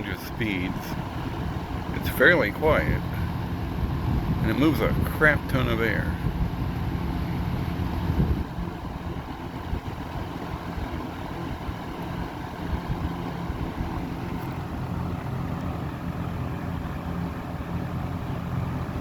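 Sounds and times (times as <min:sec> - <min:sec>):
box fan running: 0:00.0 - 0:19.0.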